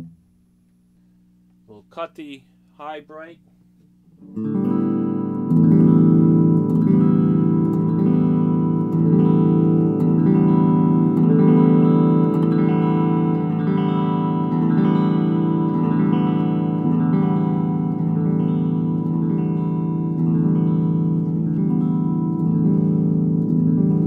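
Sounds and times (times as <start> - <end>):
electric guitar chord strummed: 4.2 - 24.0.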